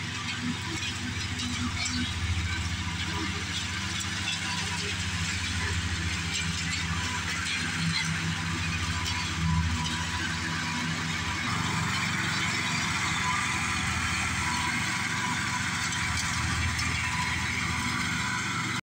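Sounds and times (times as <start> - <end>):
riding lawn mower engine: 0.0 - 18.8.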